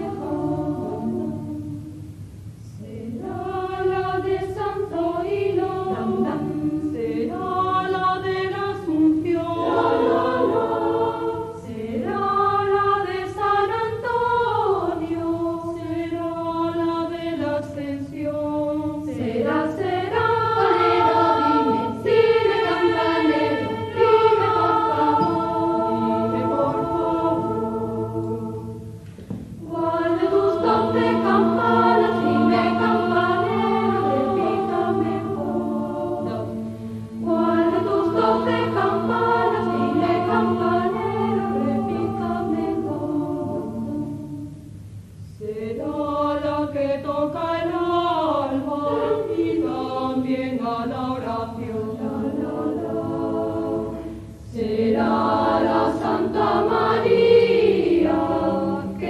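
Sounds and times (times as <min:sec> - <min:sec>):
mixed choir singing: 0:00.0 - 0:02.2, 0:02.8 - 0:44.7, 0:45.4 - 0:59.0.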